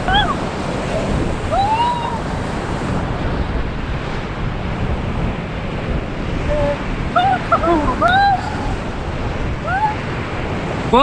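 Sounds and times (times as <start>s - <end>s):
whitewater rapids rushing: 0.0s - 11.0s
wind buffeting microphone: 0.0s - 11.0s.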